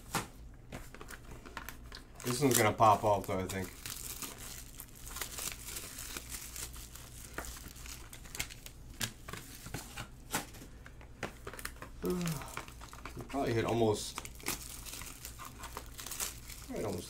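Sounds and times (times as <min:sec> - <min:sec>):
foil wrappers crinkling: 0:00.7 - 0:17.0.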